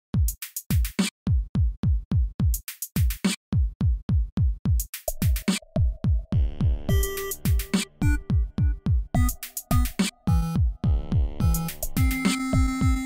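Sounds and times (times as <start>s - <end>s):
drum machine beat: 0.1s - 13.0s.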